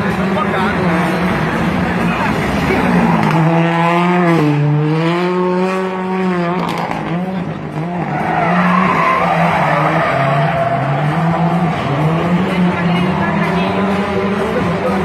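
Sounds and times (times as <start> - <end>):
car engine revving hard: 0.2 - 15.0.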